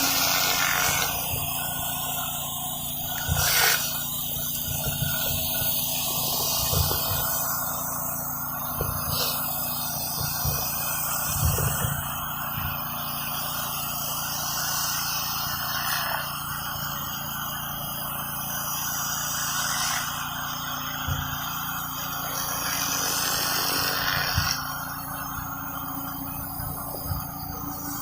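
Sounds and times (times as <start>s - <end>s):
pressure washer engine running: 0.0s - 28.0s
water jet blasting concrete: 0.0s - 28.0s.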